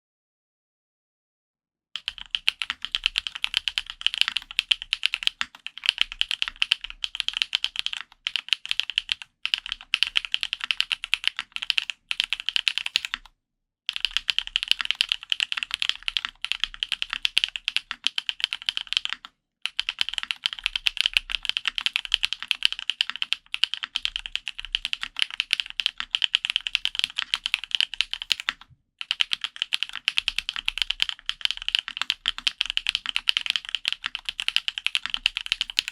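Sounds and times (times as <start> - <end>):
mechanical keyboard typing: 2.0 - 13.3, 13.9 - 35.9.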